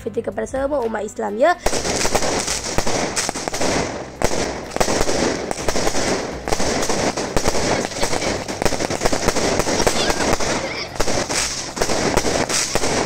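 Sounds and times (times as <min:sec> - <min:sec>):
fireworks bangs and crackles: 0:01.6 - 0:13.0.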